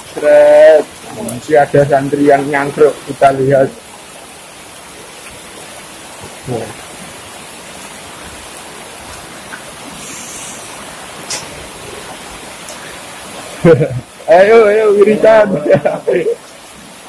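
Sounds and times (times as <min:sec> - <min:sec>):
rainwater rushing along drain: 0:00.0 - 0:17.0.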